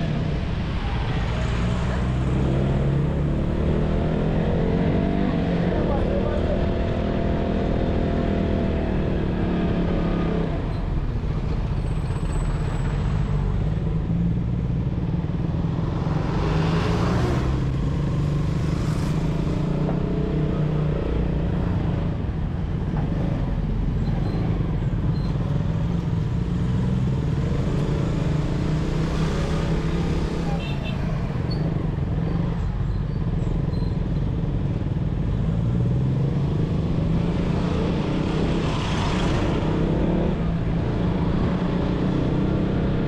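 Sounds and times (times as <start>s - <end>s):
city traffic noise: 0.0s - 43.0s.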